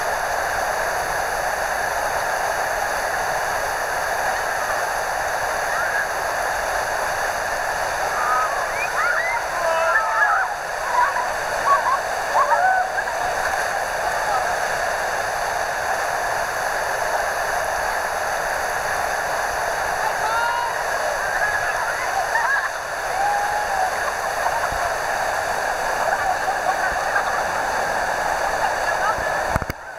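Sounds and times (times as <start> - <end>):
river rapids rushing: 0.0 - 29.9.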